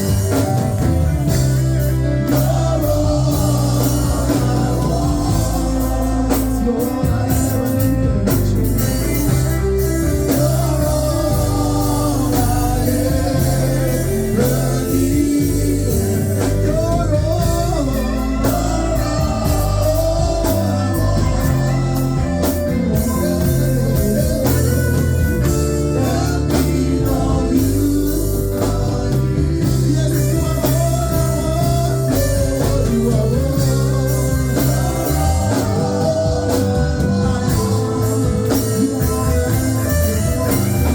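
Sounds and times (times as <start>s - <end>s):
people singing: 0.0s - 40.9s
worship band playing: 0.0s - 40.9s.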